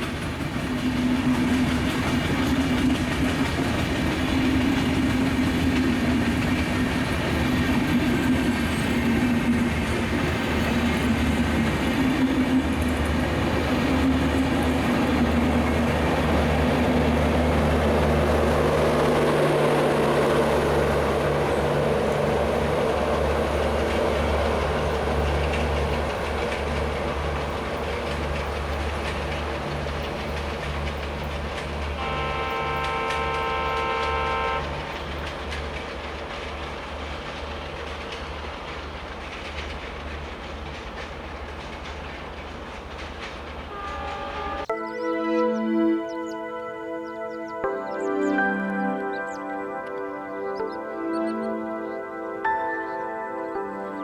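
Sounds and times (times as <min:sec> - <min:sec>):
passenger train passing: 0:00.0 - 0:54.0.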